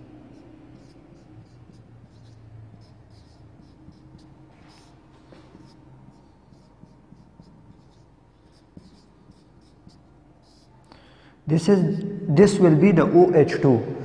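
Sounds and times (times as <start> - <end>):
marker pen on whiteboard: 0.0 - 13.3.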